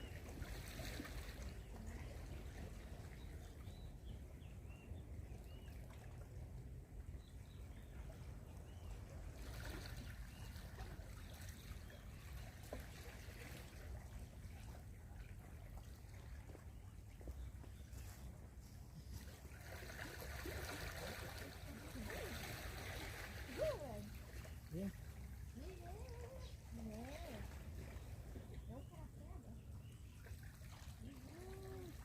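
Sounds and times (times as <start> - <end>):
water splashing and trickling: 0.0 - 32.0.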